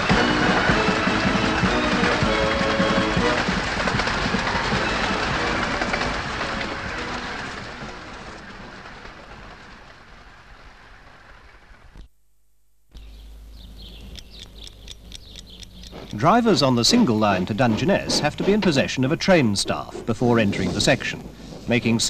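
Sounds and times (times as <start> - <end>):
miniature steam train rushing: 0.0 - 12.0, 14.2 - 22.0.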